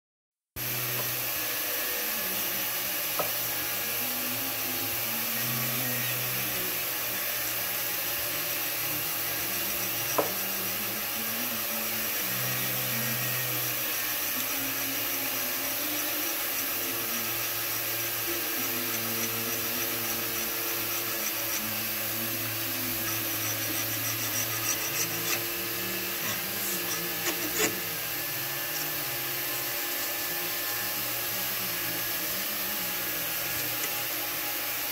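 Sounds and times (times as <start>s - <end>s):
small power tool running: 0.6s - 34.9s.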